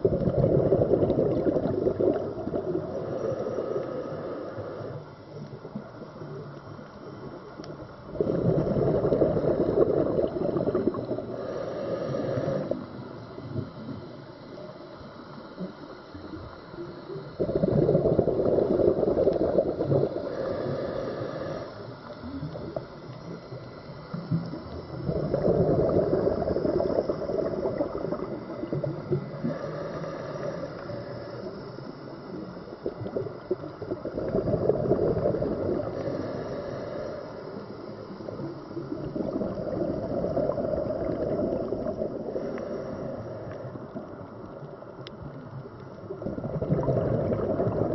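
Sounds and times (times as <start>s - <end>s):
exhaled bubbles gurgling: 0.0s - 14.8s, 15.6s - 47.9s
quiet water noise: 0.0s - 47.9s.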